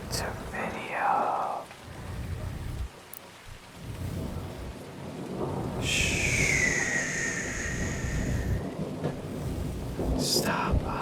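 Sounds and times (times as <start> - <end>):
rain: 0.0 - 11.0
thunder rumbling: 0.0 - 11.0.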